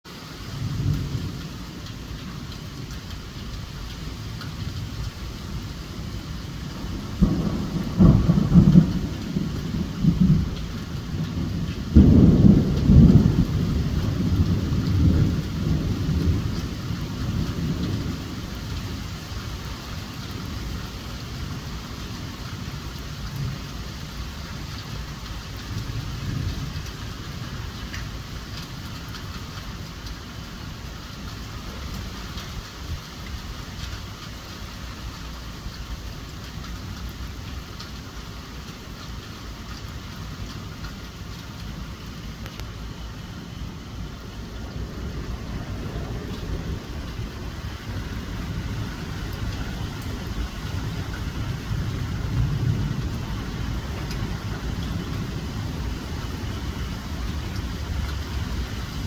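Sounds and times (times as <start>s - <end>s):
steady rain: 0.1s - 59.0s
thunder rumbling: 0.6s - 34.4s, 35.9s - 59.0s.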